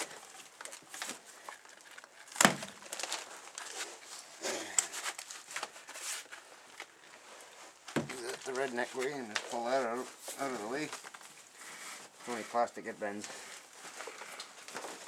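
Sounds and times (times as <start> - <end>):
rug rustling and scraping: 0.0 - 15.0.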